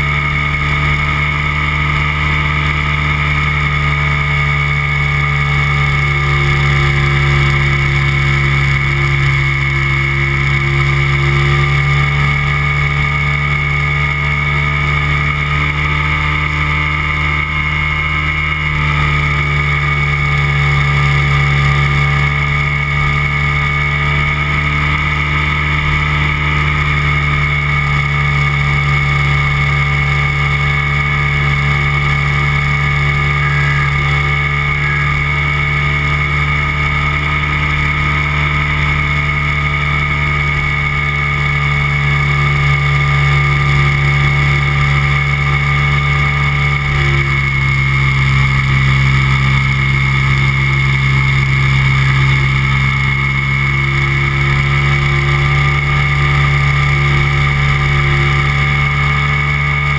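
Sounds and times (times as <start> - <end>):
microlight engine and propeller: 0.0 - 59.9.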